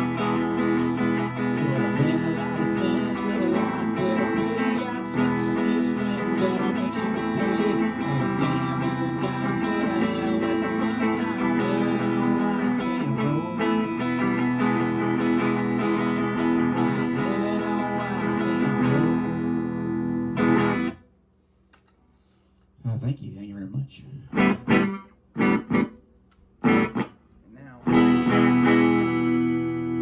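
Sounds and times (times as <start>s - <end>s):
guitar strumming chords: 0.0s - 21.0s, 24.3s - 26.0s, 26.6s - 27.2s, 27.8s - 30.0s.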